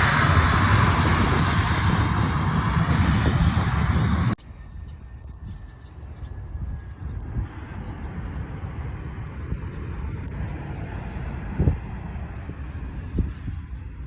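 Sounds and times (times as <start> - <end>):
airplane engines roaring: 0.0 - 14.0.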